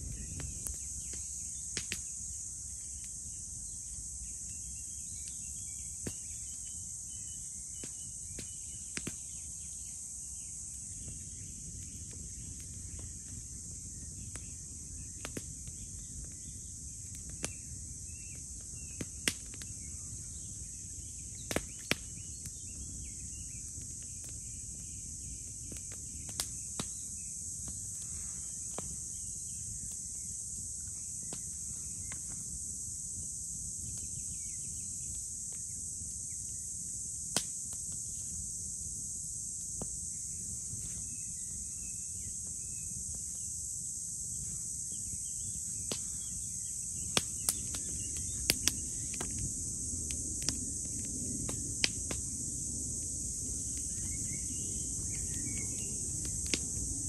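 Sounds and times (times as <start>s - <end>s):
crickets and insects buzzing: 0.0s - 57.0s.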